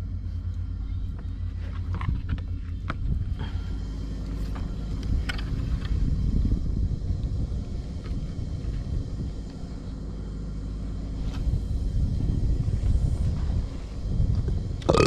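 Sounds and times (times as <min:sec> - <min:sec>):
low rising and falling rumble: 0:00.0 - 0:15.0
steady engine drone: 0:00.0 - 0:15.0.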